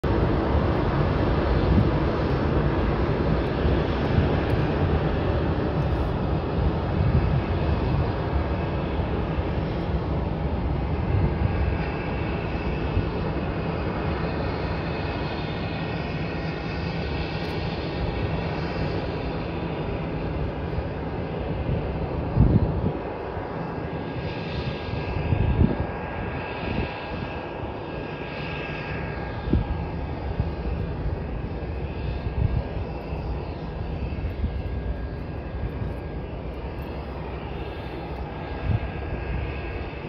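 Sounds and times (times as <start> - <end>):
jet engines rushing and whining: 0.0 - 40.0.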